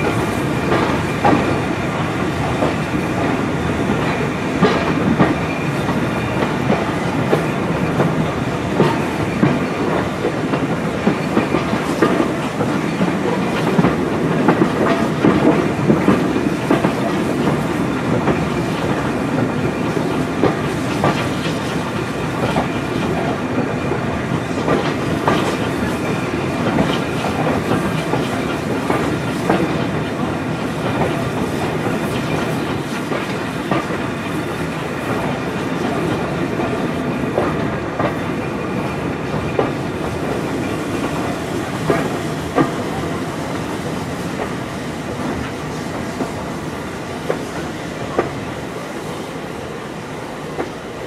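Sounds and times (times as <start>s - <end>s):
train running rumble: 0.0s - 51.0s
train wheels clicking over rail joints: 0.0s - 51.0s.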